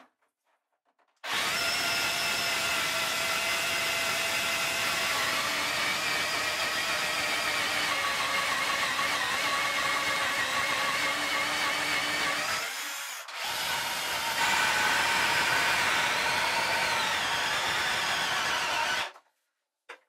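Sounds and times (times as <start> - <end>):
cordless drill cutting plywood: 1.2 - 19.2.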